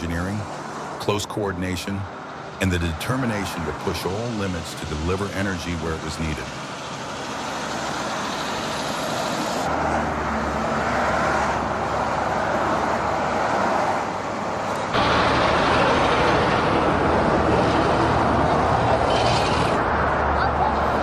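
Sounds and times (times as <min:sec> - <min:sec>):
truck engine and tyre noise: 0:00.0 - 0:21.0.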